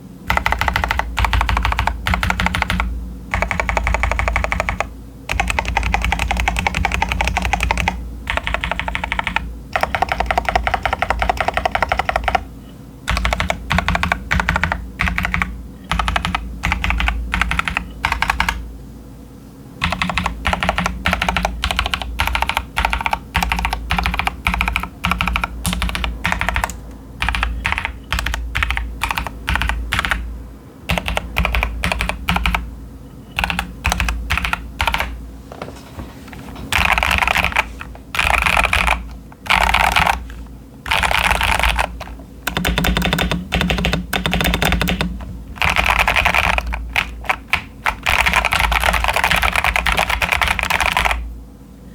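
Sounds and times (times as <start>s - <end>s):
mechanical keyboard typing: 0.3s - 12.5s, 13.1s - 18.6s, 19.8s - 30.3s, 30.9s - 32.7s, 33.4s - 35.2s, 36.7s - 51.2s.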